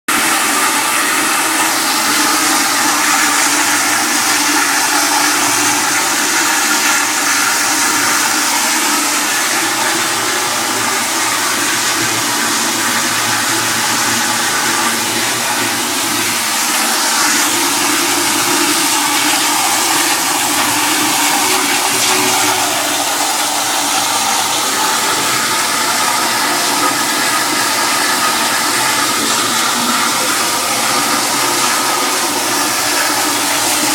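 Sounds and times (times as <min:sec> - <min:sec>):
toilet flushing continuously: 0:00.1 - 0:33.9.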